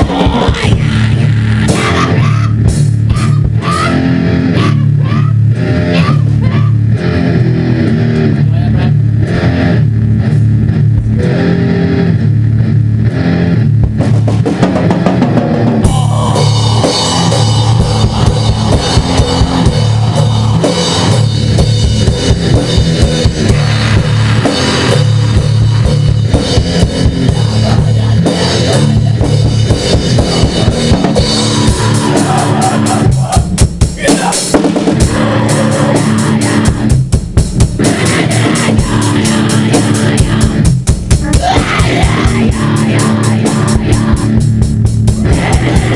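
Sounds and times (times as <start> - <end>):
electric guitar: 0.0 - 45.9
heavy metal instrumental: 0.0 - 45.9
pounding drum kit: 0.0 - 45.9.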